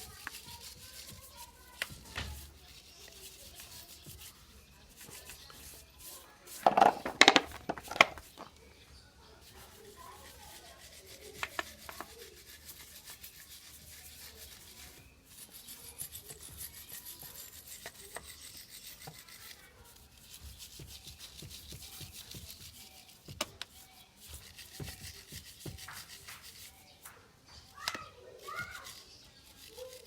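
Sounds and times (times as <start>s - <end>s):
stiff brush scrubbing metal: 0.0s - 30.0s.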